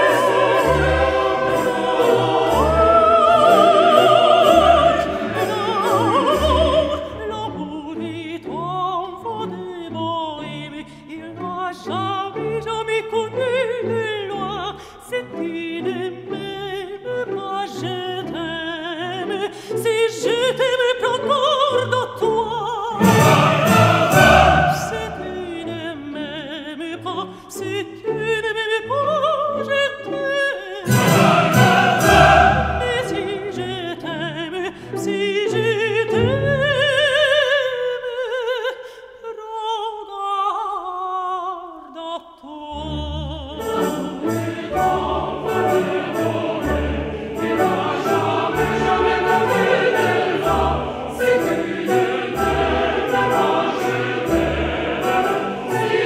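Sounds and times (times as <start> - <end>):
orchestral accompaniment: 0.0 - 27.2, 30.8 - 37.4, 42.9 - 56.0
operatic singing: 0.0 - 56.0.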